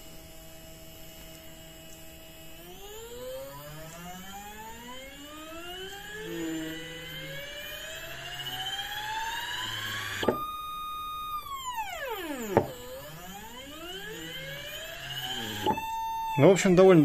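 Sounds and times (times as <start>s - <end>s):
stepper motor whining: 0.0s - 17.0s.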